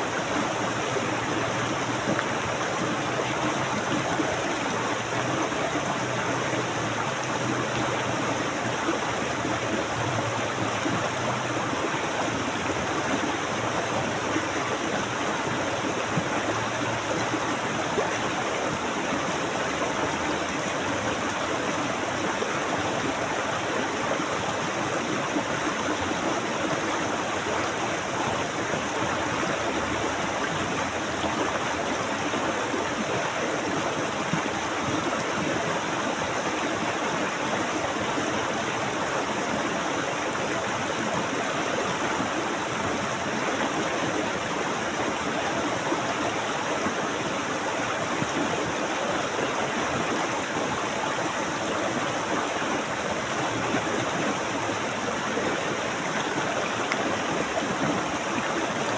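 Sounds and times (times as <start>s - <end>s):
rushing flowing water: 0.0s - 58.9s.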